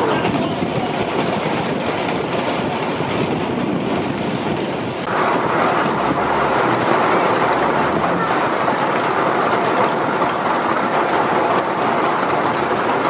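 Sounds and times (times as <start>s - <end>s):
hail and rain pelting: 0.0s - 13.0s
hail on metal awning: 0.0s - 13.0s.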